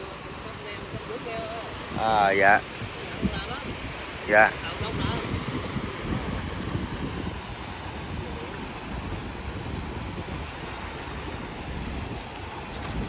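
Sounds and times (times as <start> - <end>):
surf rushing on beach: 0.0 - 13.0
wind buffeting microphone: 0.4 - 13.0.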